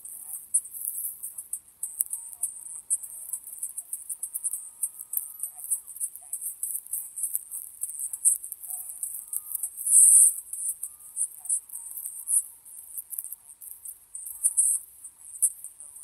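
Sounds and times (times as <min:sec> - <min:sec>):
faint thin tone: 0:00.0 - 0:16.0
insects chirping and buzzing: 0:00.0 - 0:16.0.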